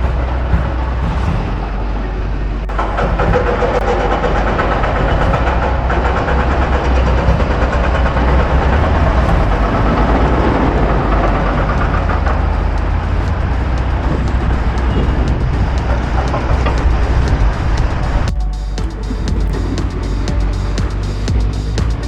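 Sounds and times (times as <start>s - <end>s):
city traffic: 0.0s - 22.0s
heavy low rumble: 0.0s - 22.0s.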